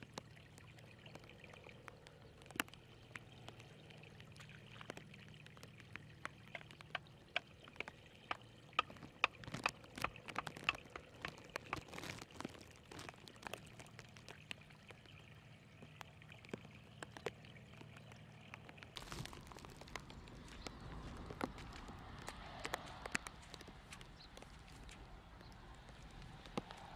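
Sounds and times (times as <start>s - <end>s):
splashes and knocks in wet mud: 0.0s - 26.9s
water trickling through mud: 0.0s - 26.9s.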